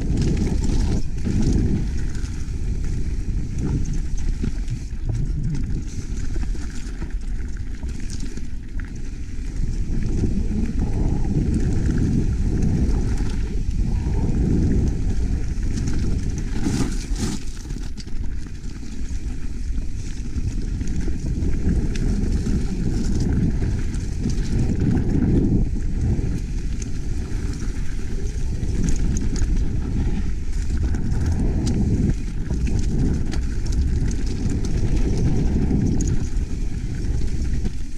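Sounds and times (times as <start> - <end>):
bike tyre noise: 0.0 - 37.9
wind buffeting microphone: 0.0 - 37.9.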